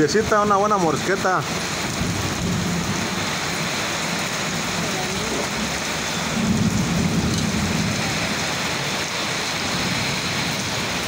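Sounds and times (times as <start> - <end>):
heavy rain pouring: 0.0 - 11.0
thunder rolling: 1.8 - 11.0.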